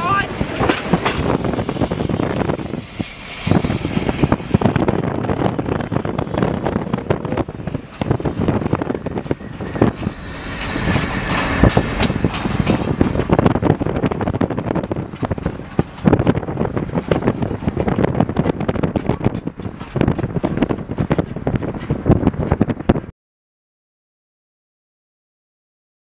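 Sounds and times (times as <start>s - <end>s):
wind buffeting microphone: 0.0s - 23.1s
vehicle running: 0.3s - 22.8s.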